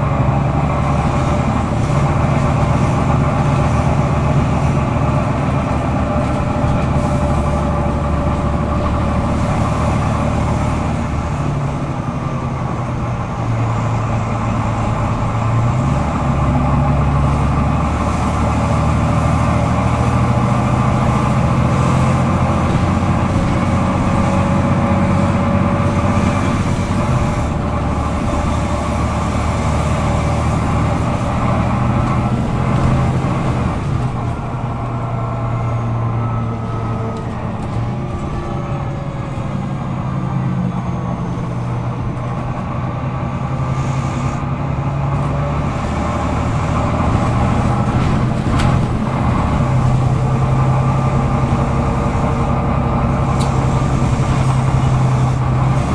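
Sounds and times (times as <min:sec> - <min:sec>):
bus diesel engine changing gear: 0:00.0 - 0:55.9.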